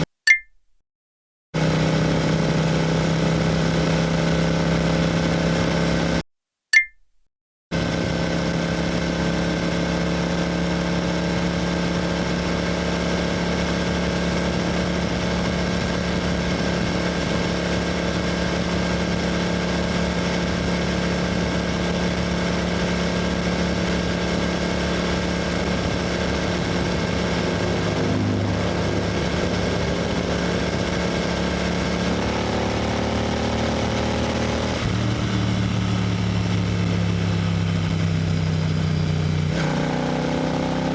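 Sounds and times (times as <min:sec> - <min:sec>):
motorcycle engine cruising: 0:07.8 - 0:40.9.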